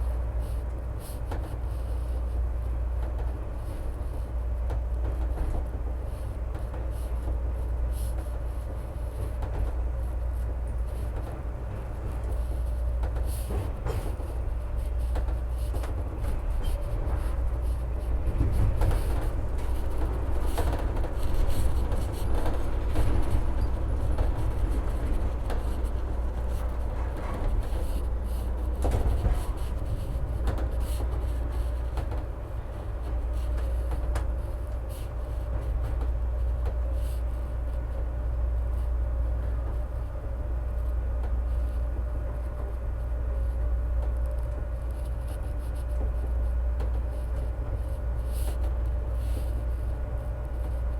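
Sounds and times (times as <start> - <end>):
train rumbling on elevated track: 0.0 - 50.9.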